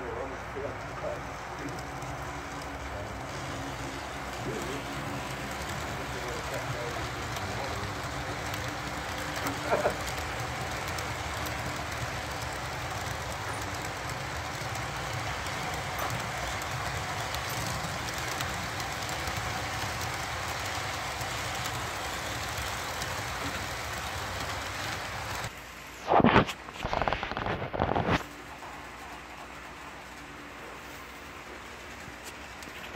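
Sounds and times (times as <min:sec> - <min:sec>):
model train cars rolling: 0:00.0 - 0:32.9.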